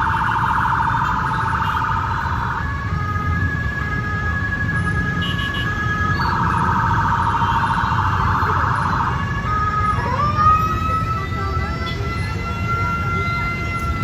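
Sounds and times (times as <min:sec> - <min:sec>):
emergency vehicle siren: 0:00.0 - 0:14.0
heavy road traffic rumble: 0:00.0 - 0:14.0.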